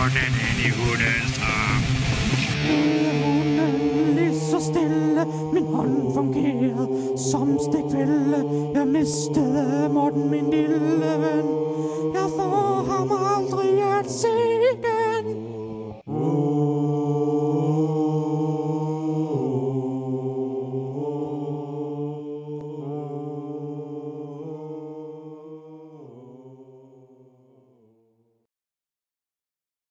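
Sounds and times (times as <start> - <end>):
person singing: 0.0 - 26.6
long drawn-out sung oooh: 1.3 - 27.6.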